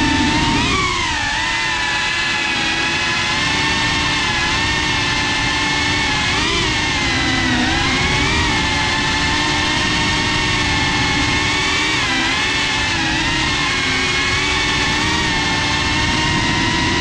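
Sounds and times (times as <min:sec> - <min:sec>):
drone motors whining: 0:00.0 - 0:17.0
rushing wind noise: 0:00.0 - 0:17.0.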